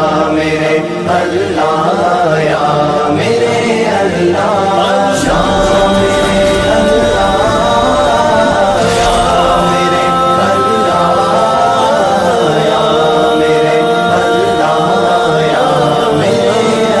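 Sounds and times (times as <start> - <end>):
layered voices chanting: 0.0 - 17.0.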